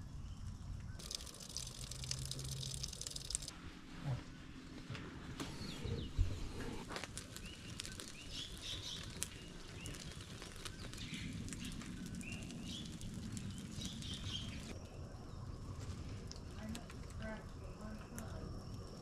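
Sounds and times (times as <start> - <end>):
small birds chirping: 0.0 - 3.5, 5.3 - 19.0
steady low rumble: 0.0 - 19.0.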